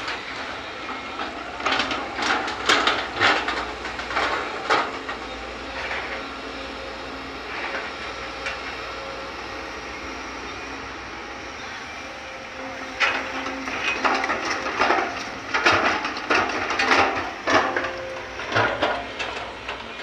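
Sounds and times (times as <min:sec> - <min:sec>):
soil and stones clattering into truck: 0:00.0 - 0:09.8, 0:12.6 - 0:20.0
excavator diesel engine running: 0:00.0 - 0:20.0.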